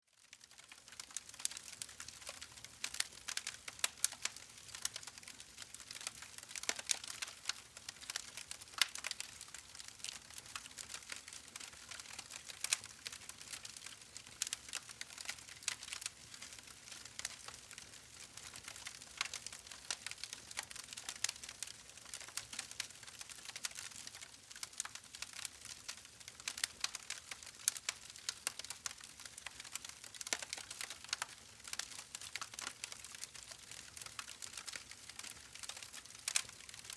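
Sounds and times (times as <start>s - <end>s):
soft steady hiss: 0.0s - 36.9s
campfire crackling and snapping: 0.3s - 36.9s.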